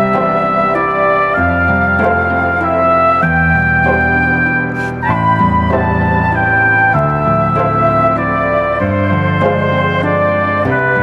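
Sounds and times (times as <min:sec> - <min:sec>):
held chords: 0:00.0 - 0:11.0
slow flute-like melody: 0:00.0 - 0:11.0.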